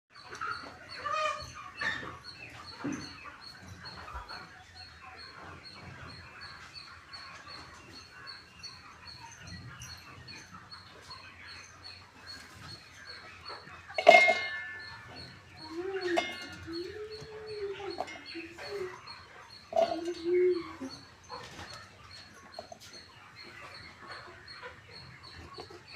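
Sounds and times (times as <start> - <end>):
poultry chirping and calling: 0.1 - 25.9.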